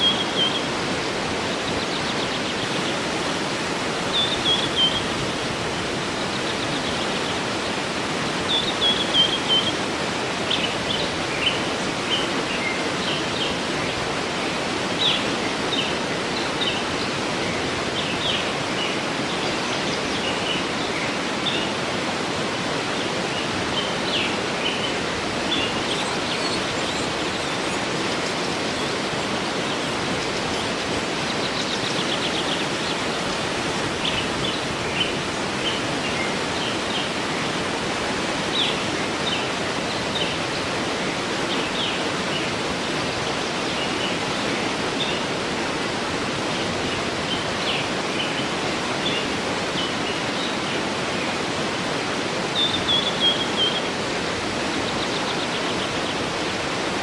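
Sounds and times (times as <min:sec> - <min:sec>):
birds chirping: 0:00.0 - 0:21.8, 0:22.8 - 0:45.5, 0:52.4 - 0:57.0
waterfall rushing: 0:00.0 - 0:57.0.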